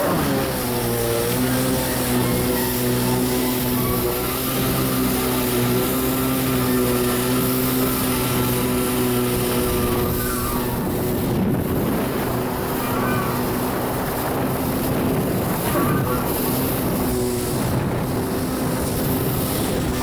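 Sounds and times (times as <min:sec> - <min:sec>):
jet ski engine humming: 0:00.0 - 0:20.0
rushing wind and water: 0:00.0 - 0:20.0.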